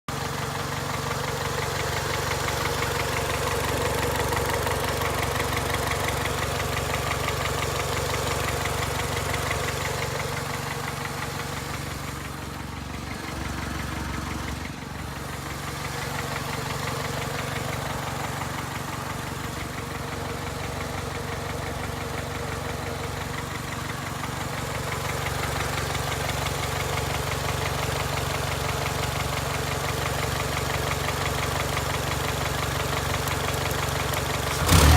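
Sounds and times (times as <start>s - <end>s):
car engine idling: 0.1s - 34.9s
rapid engine knocking: 0.1s - 34.9s.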